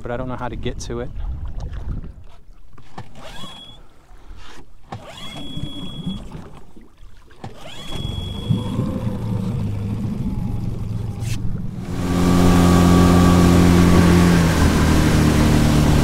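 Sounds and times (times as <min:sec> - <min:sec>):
outboard motor starting and running: 0:01.4 - 0:16.0.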